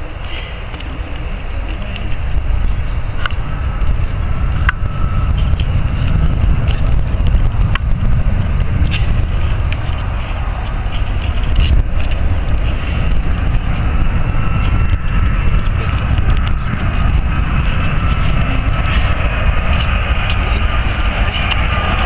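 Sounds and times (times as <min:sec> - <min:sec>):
heavy low rumble: 0:00.0 - 0:22.0
jet engine whine: 0:00.0 - 0:22.0.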